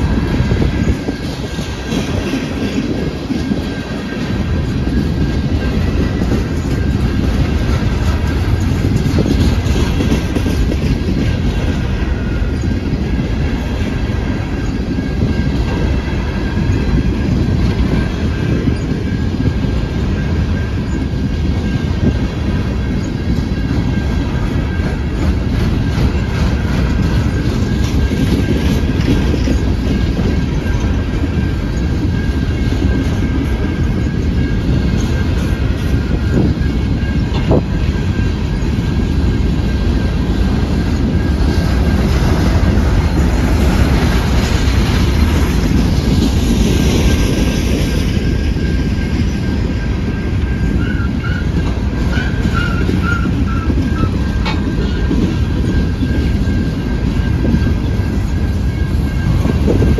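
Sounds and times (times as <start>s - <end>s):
train rolling on rails: 0.0s - 59.9s.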